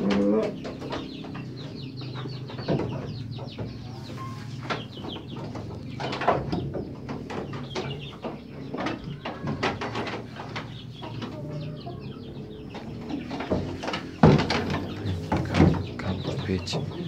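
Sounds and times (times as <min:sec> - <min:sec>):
sharp knocks: 0:00.0 - 0:03.9, 0:04.6 - 0:11.4, 0:12.7 - 0:17.0
birds chirping: 0:00.0 - 0:17.0.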